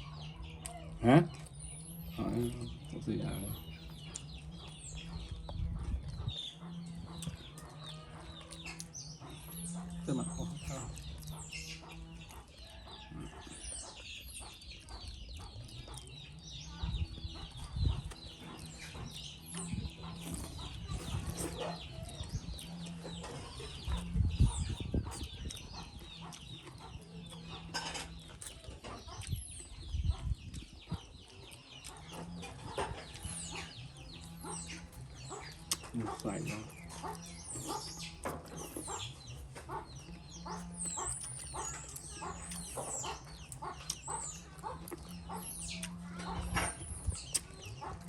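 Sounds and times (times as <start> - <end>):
chickens clucking: 0.0 - 48.0
high chick peeps: 0.0 - 48.0.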